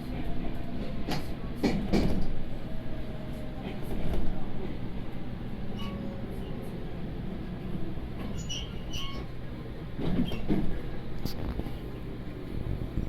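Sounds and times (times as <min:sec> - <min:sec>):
electric train low hum: 0:00.0 - 0:13.0
train rumble: 0:00.0 - 0:13.0.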